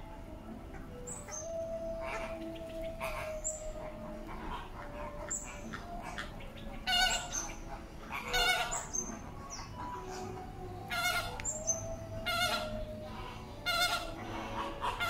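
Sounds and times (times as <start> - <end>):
flamingos honking: 0.0 - 15.0.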